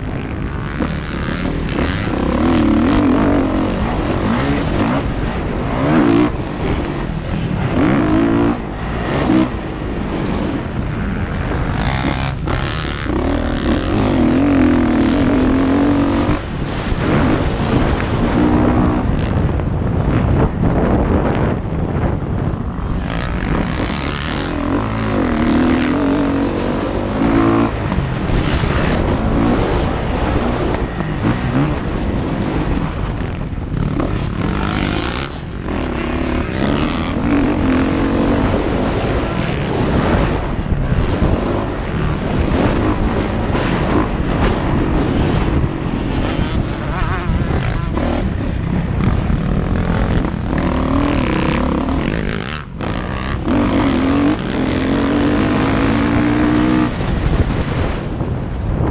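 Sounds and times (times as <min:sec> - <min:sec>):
dirt bike engine revving: 0:00.0 - 0:58.1.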